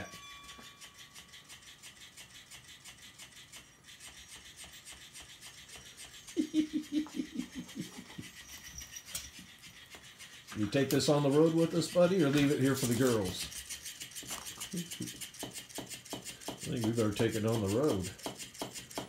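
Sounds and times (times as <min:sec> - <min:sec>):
toy motor buzzing: 0:00.0 - 0:19.0.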